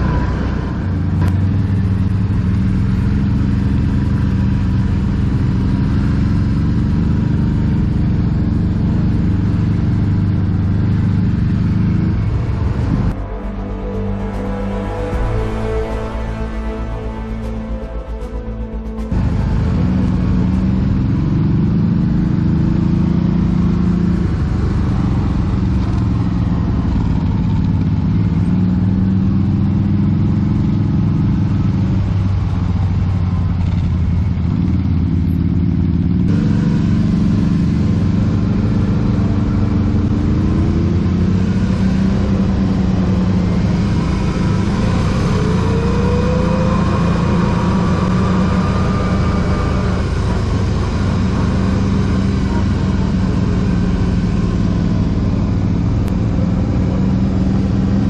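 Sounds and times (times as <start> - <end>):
atv engine revving: 0.0 - 13.2, 19.1 - 58.0.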